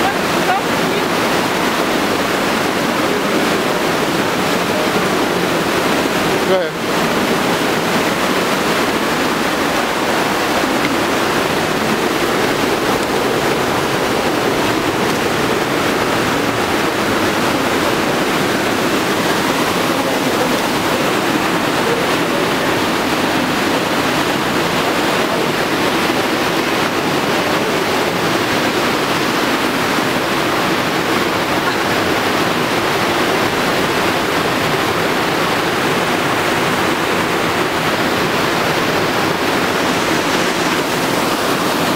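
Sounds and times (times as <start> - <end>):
rushing whitewater: 0.0 - 41.9.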